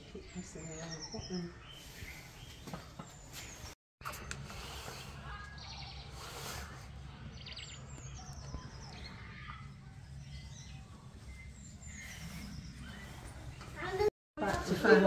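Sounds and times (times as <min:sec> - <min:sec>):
small birds chirping: 0:00.0 - 0:14.1.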